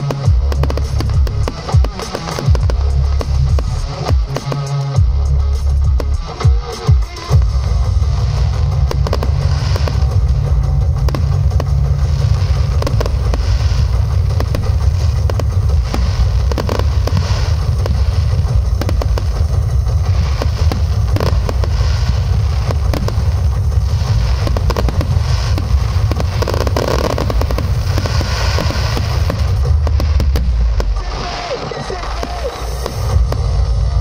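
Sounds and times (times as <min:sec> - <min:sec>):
fireworks booming: 0:00.0 - 0:34.0
fireworks sharp cracks: 0:00.0 - 0:34.0
high hissing crackle: 0:00.0 - 0:34.0.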